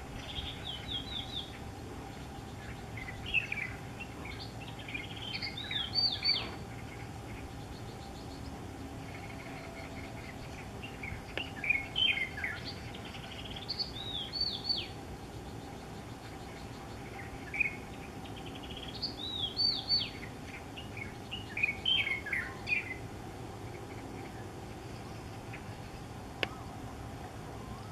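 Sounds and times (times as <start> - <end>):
bird singing whistled notes: 0.0 - 23.0.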